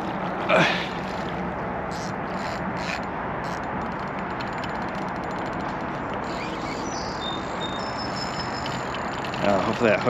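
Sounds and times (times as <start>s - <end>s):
rapid fine ticking: 1.0s - 10.0s.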